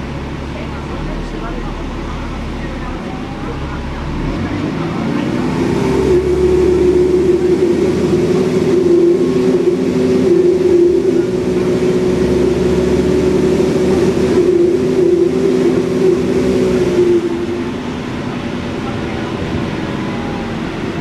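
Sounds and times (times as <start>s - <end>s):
bus engine drone on board: 0.0s - 21.0s.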